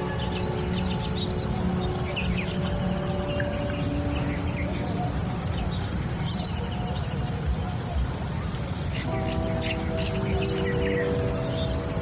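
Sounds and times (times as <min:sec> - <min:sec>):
birds chirping: 0:00.0 - 0:12.0
high-pitched insect drone: 0:00.0 - 0:12.0.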